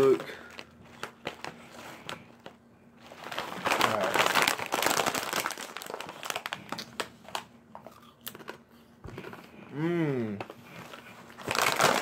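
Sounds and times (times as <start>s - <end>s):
plastic chip bag crinkling: 0.0s - 8.6s, 10.7s - 12.0s.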